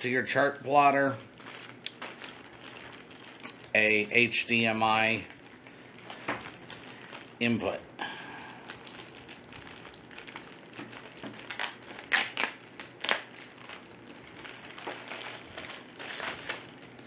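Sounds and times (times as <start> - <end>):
packaging crinkling and rustling: 0.3 - 7.8, 8.4 - 17.0.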